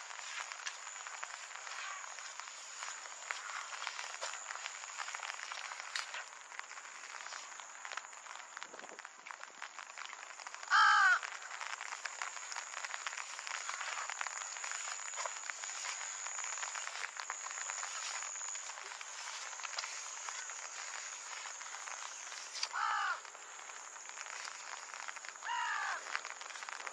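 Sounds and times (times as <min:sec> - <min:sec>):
rain pattering: 0:00.0 - 0:26.9.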